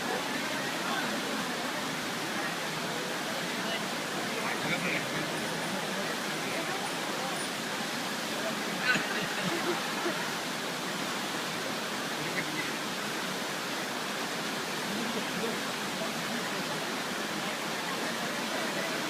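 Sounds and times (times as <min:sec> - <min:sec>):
faint voices: 0:00.0 - 0:19.0
river water rushing: 0:00.0 - 0:19.0.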